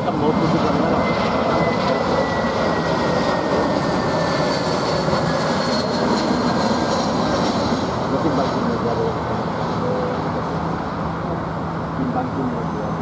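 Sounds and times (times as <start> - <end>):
jet airliner engines whining: 0.0 - 13.0.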